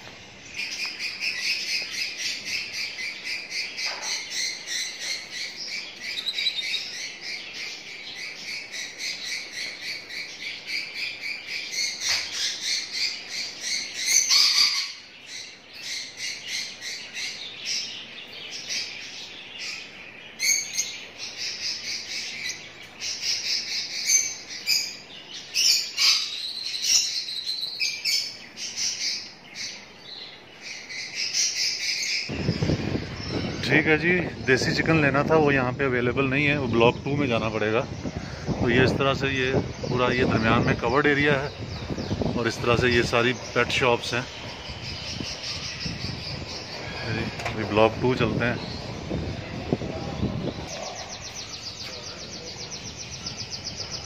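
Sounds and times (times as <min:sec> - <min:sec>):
caged birds chirping: 0:00.0 - 0:54.0.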